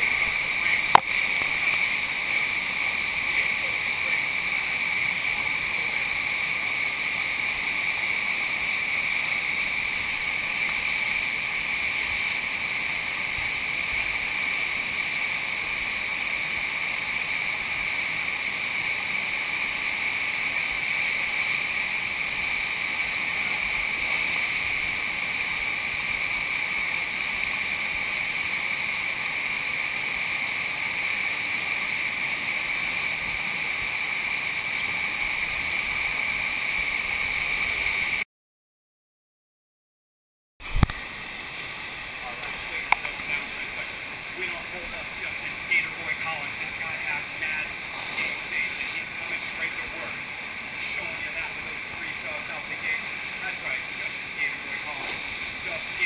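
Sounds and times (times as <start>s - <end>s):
water rushing over surf ride: 0.0s - 38.2s, 40.6s - 56.0s.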